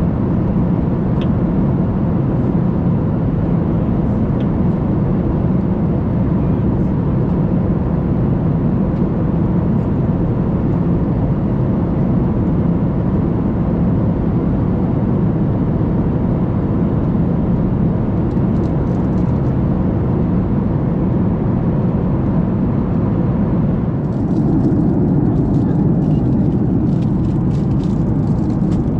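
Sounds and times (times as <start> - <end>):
airplane cabin airflow and engine hum: 0.0 - 28.9.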